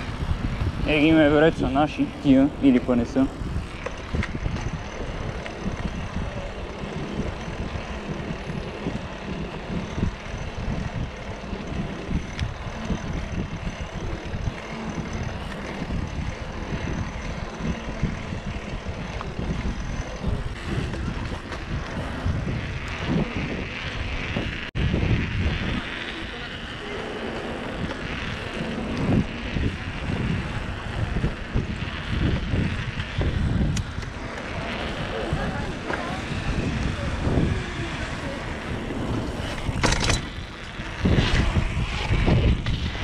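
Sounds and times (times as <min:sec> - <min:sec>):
bicycle tyres rumbling on road: 0:00.0 - 0:43.0
wind buffeting microphone: 0:00.0 - 0:43.0.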